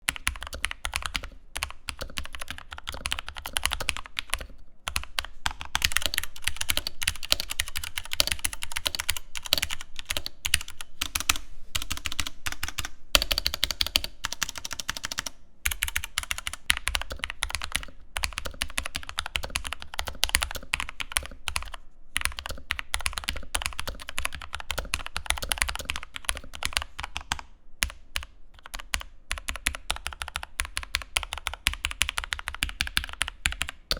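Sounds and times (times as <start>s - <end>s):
fast mechanical keyboard typing: 0.1s - 33.9s.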